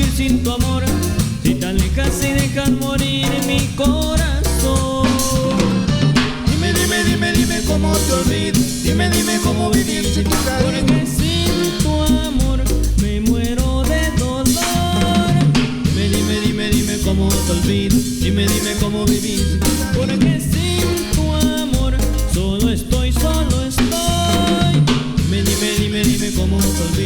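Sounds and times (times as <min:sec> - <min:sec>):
band playing dance music: 0:00.0 - 0:27.0.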